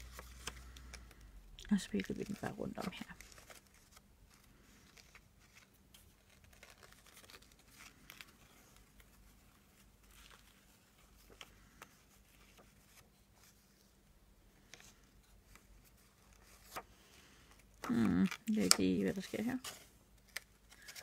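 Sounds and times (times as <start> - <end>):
ribbon and paper rustling: 0.0 - 21.0.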